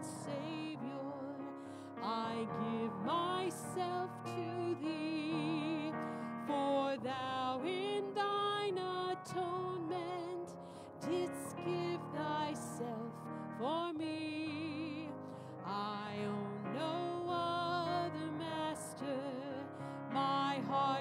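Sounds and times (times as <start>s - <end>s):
grand piano: 0.0s - 21.0s
woman singing a hymn: 0.0s - 21.0s.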